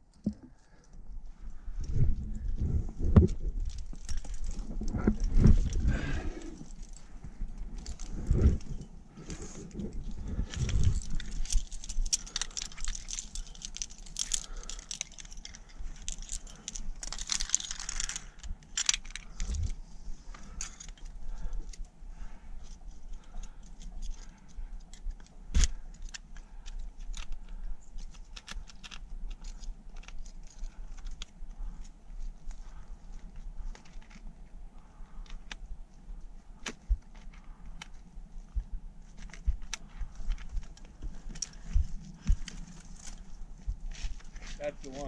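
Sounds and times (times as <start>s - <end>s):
metal climbing gear jangling: 3.3s - 34.3s, 36.6s - 45.0s.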